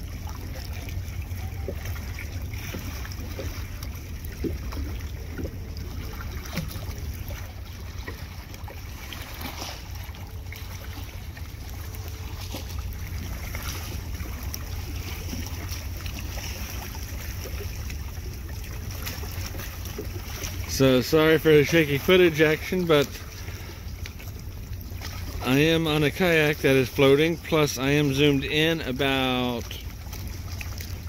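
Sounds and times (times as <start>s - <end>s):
water lapping: 0.0s - 31.0s.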